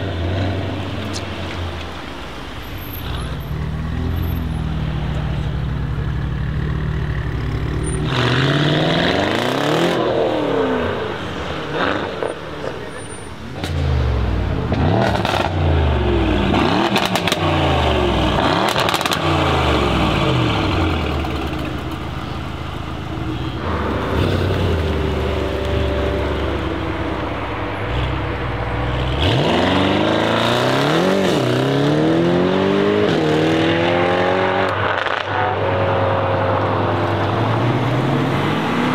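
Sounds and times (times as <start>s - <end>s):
car accelerating: 0.0s - 38.9s
car engine revving: 0.0s - 38.9s.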